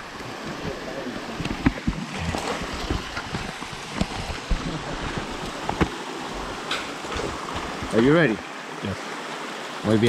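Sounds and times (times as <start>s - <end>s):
rushing stream water: 0.0s - 10.0s
low thumps and knocks: 0.1s - 8.3s.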